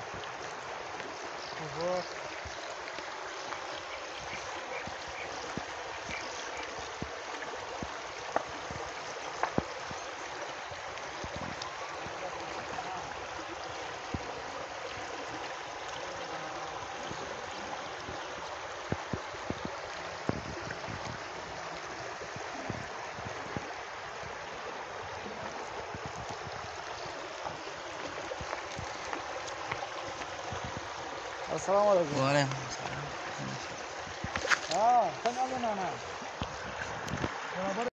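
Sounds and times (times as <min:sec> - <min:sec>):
stream flowing over stones: 0:00.0 - 0:37.9.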